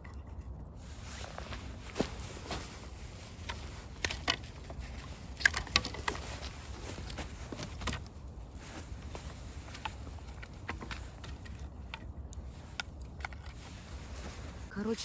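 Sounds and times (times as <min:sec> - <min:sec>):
sticks knocking and snapping: 0:01.2 - 0:14.0.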